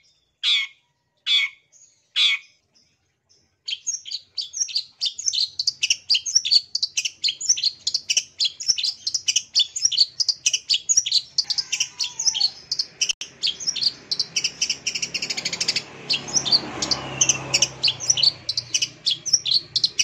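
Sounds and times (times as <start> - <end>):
bird singing fast chirps and trills: 0.0 - 20.0.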